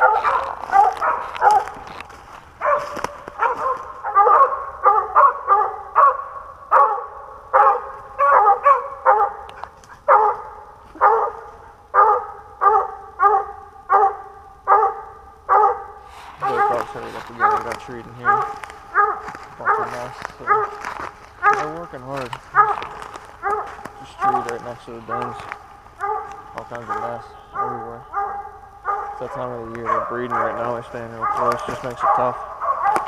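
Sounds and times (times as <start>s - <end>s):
dog barking: 0.0s - 1.9s, 2.6s - 33.0s.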